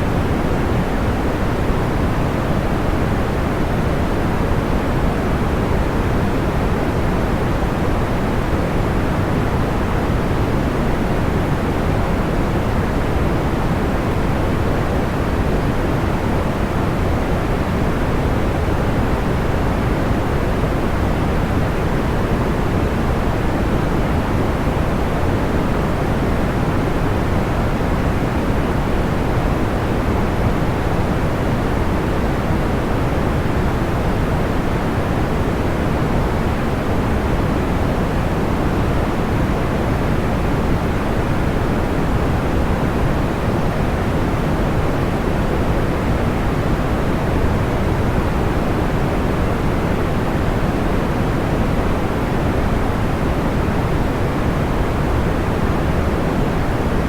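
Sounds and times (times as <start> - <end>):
soft low white noise: 0.0 - 57.0.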